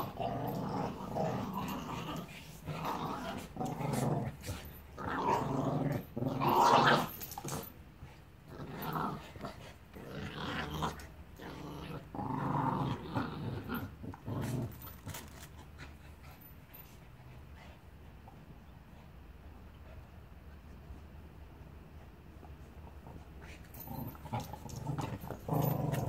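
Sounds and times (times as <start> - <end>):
dogs growling in play: 0.0 - 19.0, 22.4 - 26.0.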